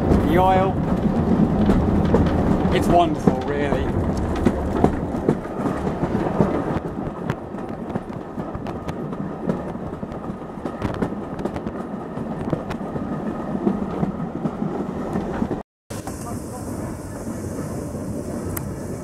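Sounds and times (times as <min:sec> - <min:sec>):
rail clicks: 0:00.0 - 0:16.4
train wheels rumbling on track: 0:00.0 - 0:19.0.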